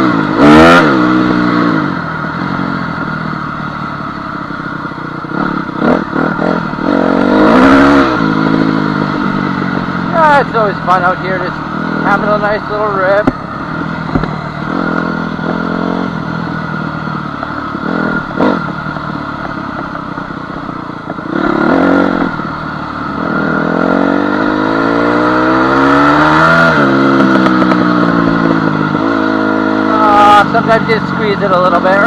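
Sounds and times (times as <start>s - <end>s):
dirt bike engine: 0.0s - 32.0s.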